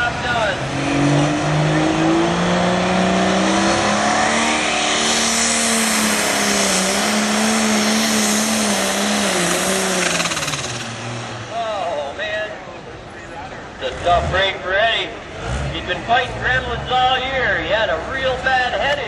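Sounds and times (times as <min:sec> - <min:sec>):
tractor engine revving high: 0:00.0 - 0:12.1, 0:13.8 - 0:17.3.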